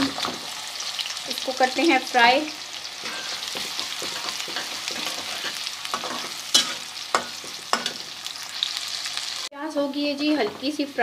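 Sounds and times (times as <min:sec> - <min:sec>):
onion sizzling in a pan: 0:00.0 - 0:11.0.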